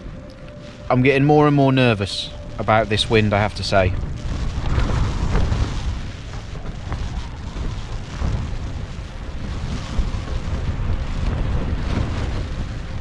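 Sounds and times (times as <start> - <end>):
gusty wind buffeting tent: 0.0 - 13.0.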